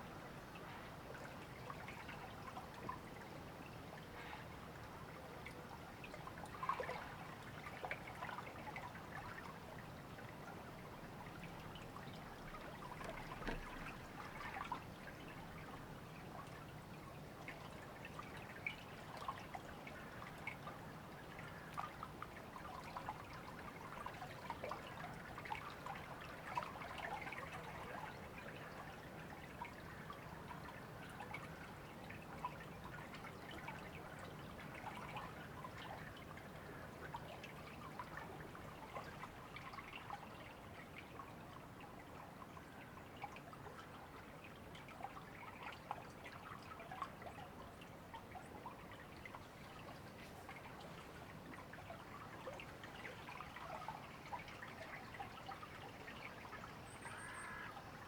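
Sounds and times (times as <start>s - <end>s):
river water babbling: 0.1s - 58.0s.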